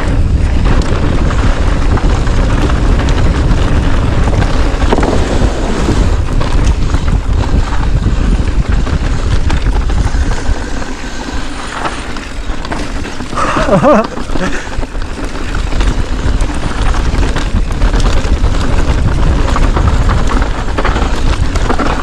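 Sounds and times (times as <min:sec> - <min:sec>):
bike tyres rattling on dirt: 0:00.0 - 0:22.0
wind buffeting microphone: 0:00.0 - 0:22.0.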